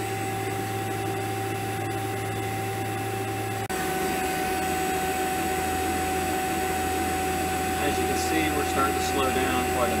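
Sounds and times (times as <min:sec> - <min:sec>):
vacuum pump humming and whining: 0:00.0 - 0:10.0.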